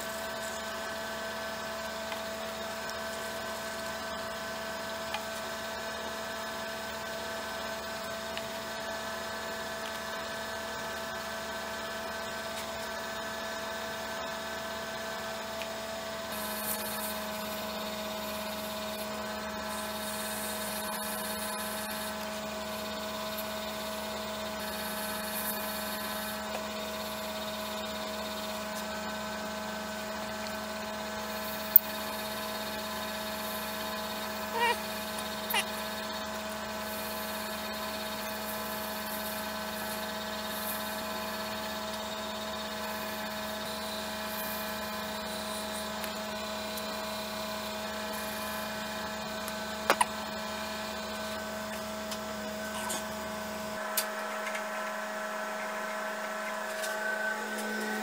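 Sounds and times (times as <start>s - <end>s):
wood lathe motor humming: 0.0s - 58.0s.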